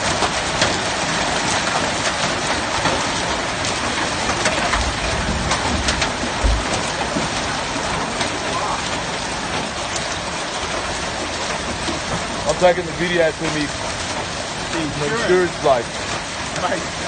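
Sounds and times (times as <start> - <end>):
hailstones pelting down: 0.0 - 17.0.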